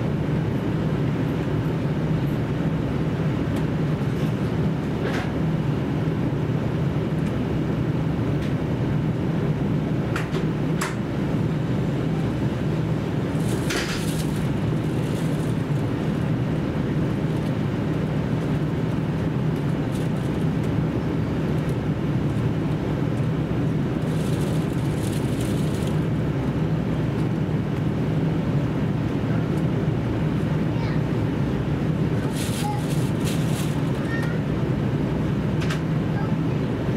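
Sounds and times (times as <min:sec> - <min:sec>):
diesel engine drone: 0:00.0 - 0:36.9
train wheel and rail noise: 0:00.0 - 0:36.9.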